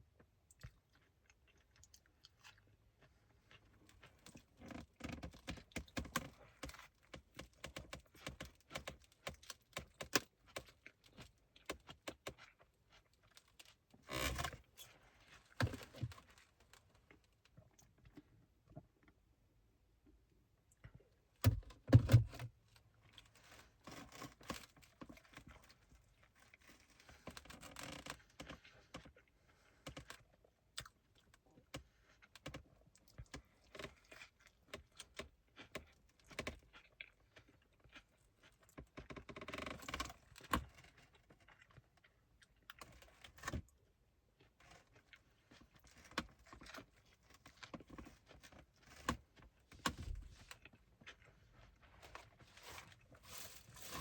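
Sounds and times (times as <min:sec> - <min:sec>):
chewing food: 0:00.0 - 0:19.2, 0:22.8 - 0:54.0.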